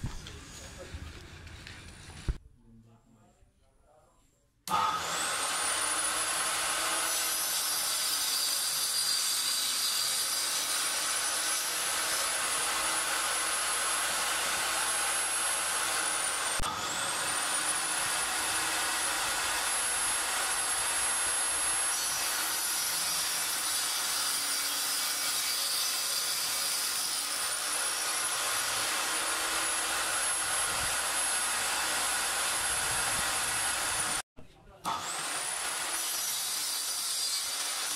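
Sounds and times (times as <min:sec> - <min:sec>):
saw cutting through board: 0:04.7 - 0:34.2, 0:34.8 - 0:37.9
table saw blade whining: 0:04.7 - 0:34.2, 0:34.9 - 0:37.9.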